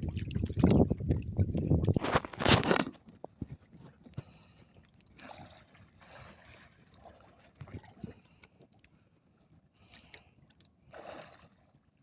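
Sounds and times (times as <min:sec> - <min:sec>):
water splashing around a boat: 0:00.0 - 0:12.0.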